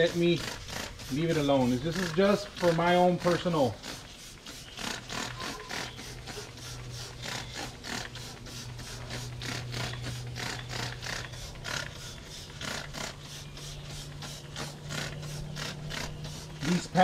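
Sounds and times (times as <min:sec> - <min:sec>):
spray bottle squirting: 0:00.0 - 0:17.0.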